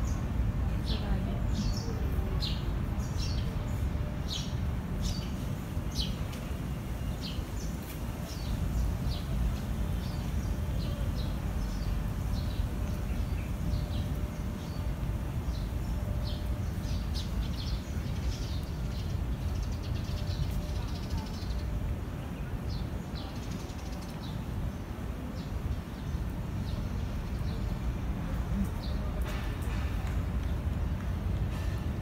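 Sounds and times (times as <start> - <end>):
small birds chirping: 0.0 - 31.7.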